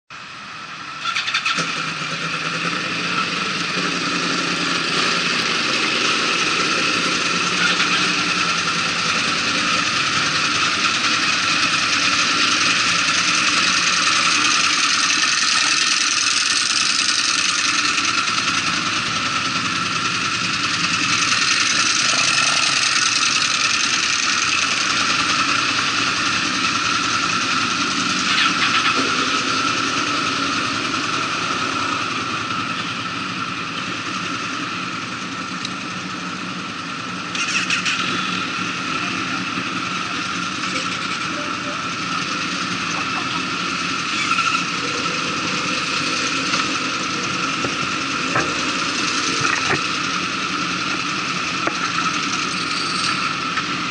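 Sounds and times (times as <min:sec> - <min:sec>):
motorcycle engines idling: 0:00.2 - 0:53.9.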